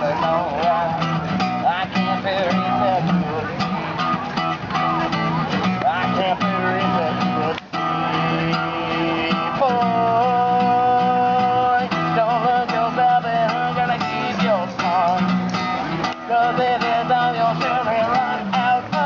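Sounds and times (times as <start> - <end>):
man singing with vibrato: 0.0 - 4.0, 5.0 - 19.0
strummed acoustic guitar: 0.0 - 19.0.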